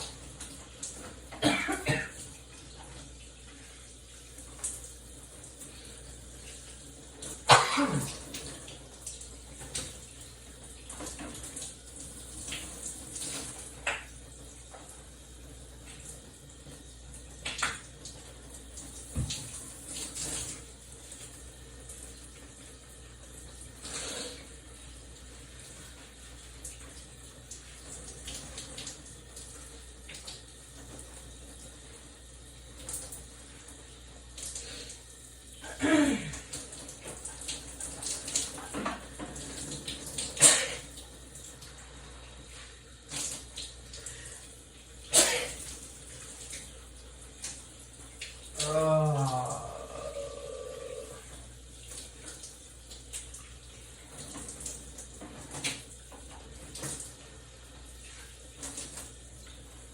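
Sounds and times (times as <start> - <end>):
shower water running: 0.0 - 59.9.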